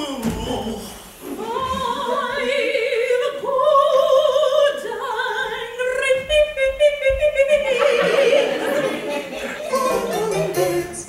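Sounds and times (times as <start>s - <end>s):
woman singing operatically: 0.0s - 8.9s.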